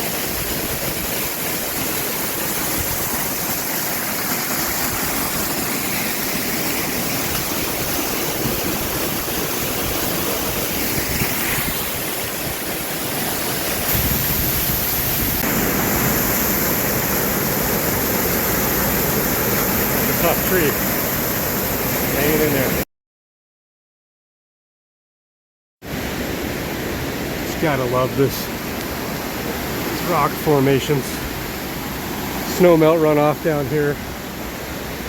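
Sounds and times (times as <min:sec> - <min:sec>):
waterfall roaring: 0:00.0 - 0:22.8, 0:26.0 - 0:35.0.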